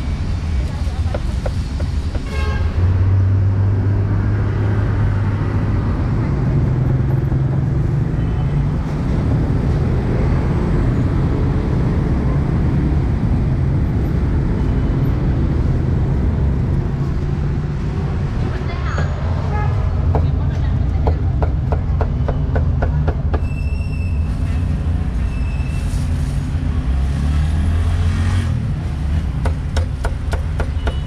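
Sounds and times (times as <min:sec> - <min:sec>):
passing motorbikes and cars: 0:00.0 - 0:23.3, 0:24.4 - 0:31.0.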